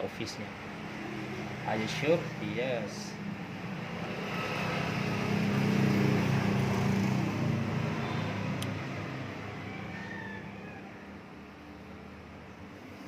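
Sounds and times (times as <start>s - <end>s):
motor vehicle passing by: 0.3s - 13.0s.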